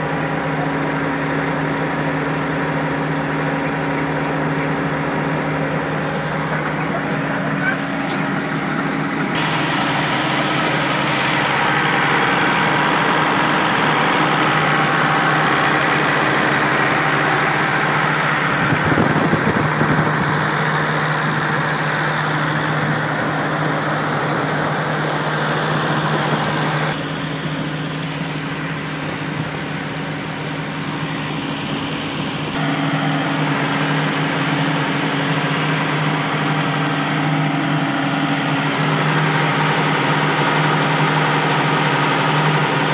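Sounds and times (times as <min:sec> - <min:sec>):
excavator diesel engine idling: 0:00.0 - 0:42.9.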